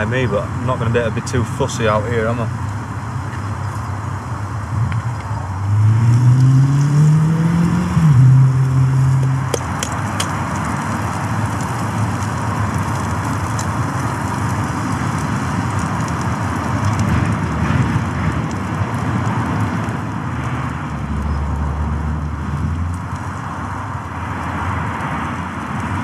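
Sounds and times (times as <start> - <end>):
vehicle engine accelerating: 2.1 - 26.0.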